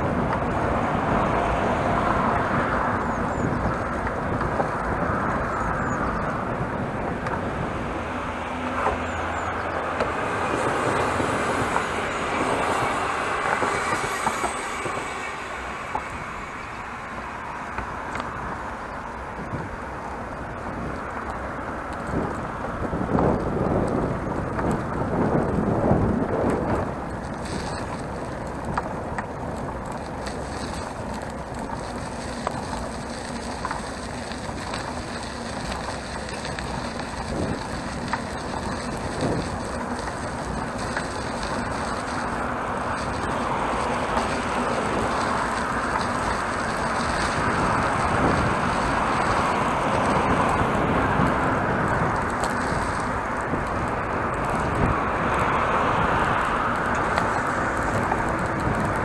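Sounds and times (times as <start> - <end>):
bicycle rolling on pavement: 0.0 - 59.0.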